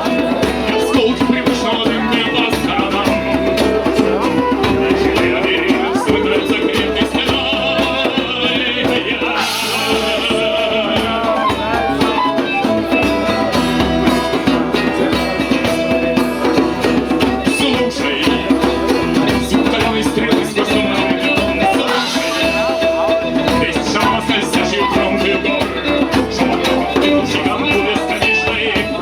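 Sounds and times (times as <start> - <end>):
drum hits: 0.0 - 29.0
live band playing: 0.0 - 29.0.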